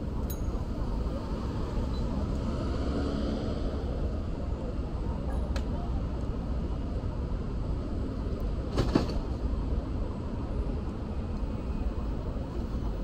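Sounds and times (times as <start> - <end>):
city street rumble: 0.0 - 13.0.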